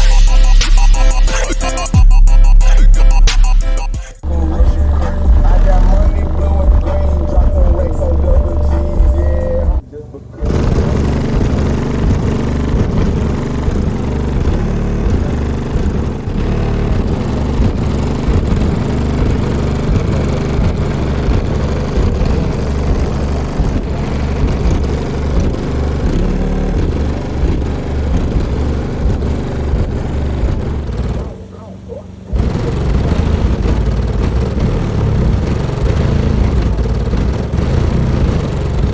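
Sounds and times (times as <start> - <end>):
bass-heavy music through subwoofers: 0.0 - 9.8, 10.4 - 31.5, 32.3 - 38.9.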